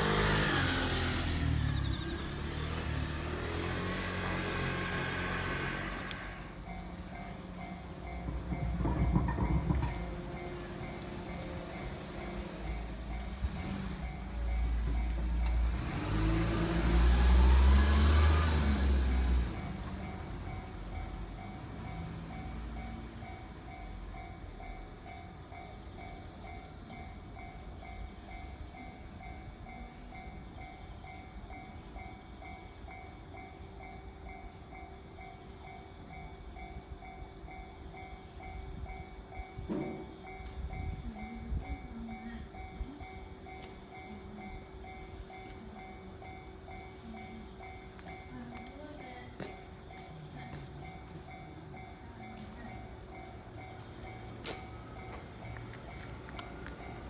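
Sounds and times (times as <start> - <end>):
crossing warning bell ringing: 0.0 - 57.0
electric train rumbling: 0.0 - 57.0.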